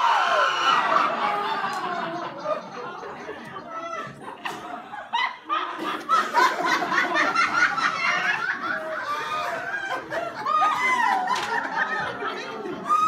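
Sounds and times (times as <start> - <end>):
audience laughing: 0.2 - 13.0.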